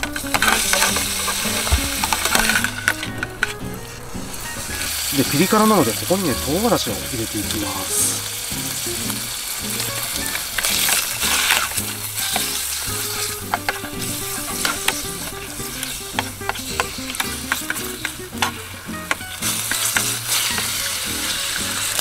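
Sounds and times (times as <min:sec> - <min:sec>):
pork sizzling in oil: 0:00.0 - 0:22.0.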